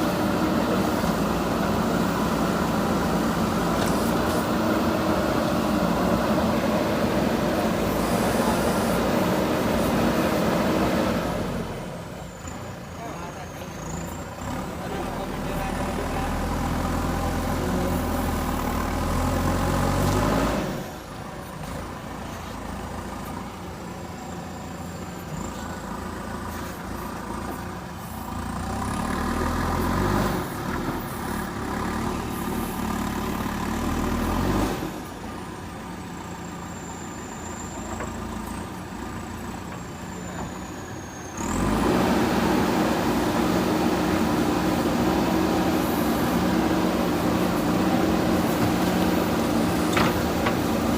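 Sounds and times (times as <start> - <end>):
backhoe diesel engine working: 0.0 - 50.9.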